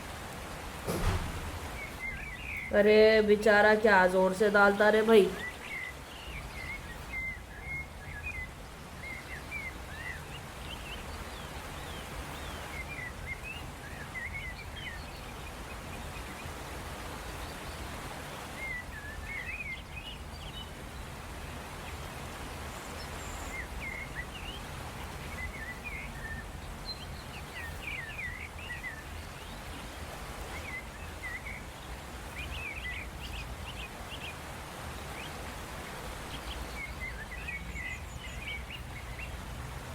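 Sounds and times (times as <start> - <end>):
birds chirping: 0.0 - 39.9
low background noise: 0.0 - 39.9.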